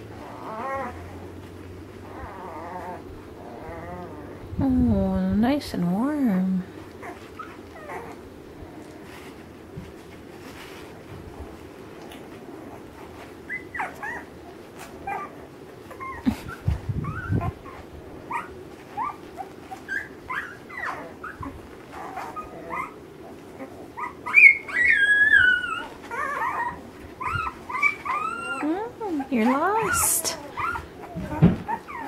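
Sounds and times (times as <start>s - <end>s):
puppies squeaking and whimpering: 0.0s - 4.5s, 6.9s - 9.0s, 10.8s - 32.0s.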